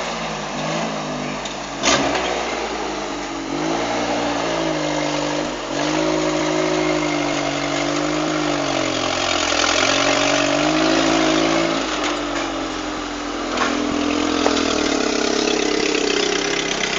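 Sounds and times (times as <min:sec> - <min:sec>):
off-road vehicle engine revving: 0:00.0 - 0:16.9.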